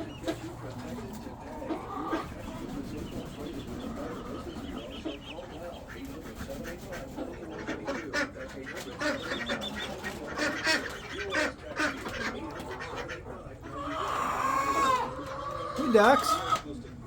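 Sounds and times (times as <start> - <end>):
ducks quacking: 0.0 - 17.0.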